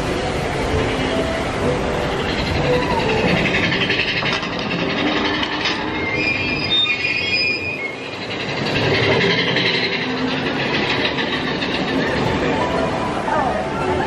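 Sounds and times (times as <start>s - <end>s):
coaster wheels rumbling: 0.0s - 14.0s
high wheel squeal: 0.9s - 12.6s.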